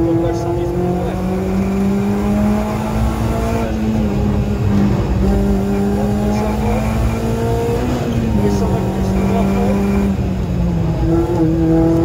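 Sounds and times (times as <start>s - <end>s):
car engine at high revs: 0.0s - 12.0s
road and tyre rumble: 0.0s - 12.0s.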